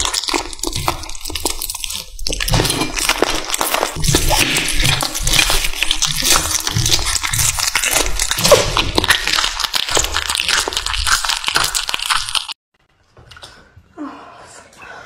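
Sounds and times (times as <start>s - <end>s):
kitten crunching food: 0.0s - 12.6s.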